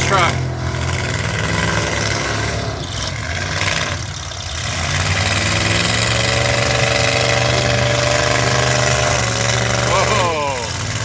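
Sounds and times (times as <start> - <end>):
truck engine revving: 0.0 - 11.0
truck engines running: 0.0 - 11.0.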